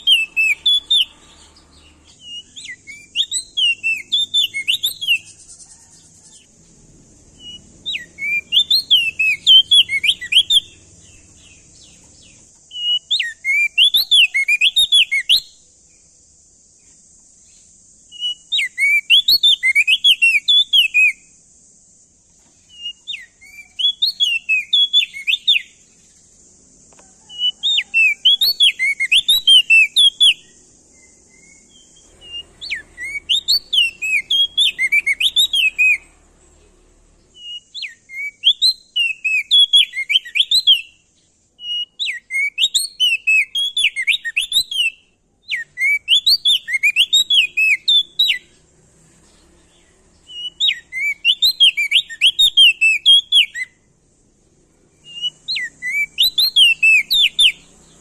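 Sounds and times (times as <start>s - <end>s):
bird singing whistled phrases: 0.0s - 6.4s, 7.4s - 15.6s, 18.1s - 21.3s, 22.7s - 25.8s, 27.2s - 36.2s, 37.3s - 48.6s, 50.2s - 53.8s, 55.0s - 58.0s
faint steady hiss: 0.0s - 58.0s.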